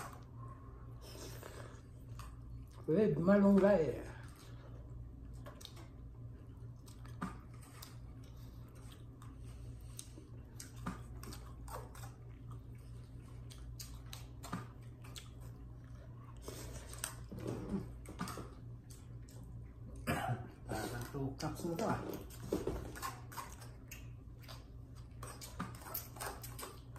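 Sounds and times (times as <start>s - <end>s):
person chewing: 0.0s - 2.9s, 4.2s - 26.9s
low hum: 0.0s - 26.9s.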